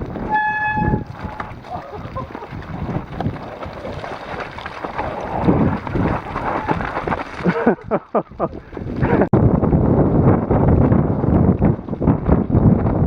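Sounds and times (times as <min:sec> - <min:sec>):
road rumble: 0:00.0 - 0:13.0
wind buffeting microphone: 0:00.0 - 0:13.0.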